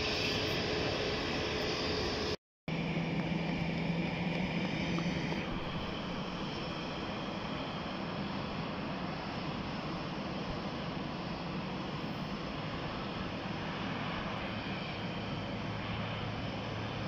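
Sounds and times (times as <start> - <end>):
distant aircraft engines: 0.0 - 17.0.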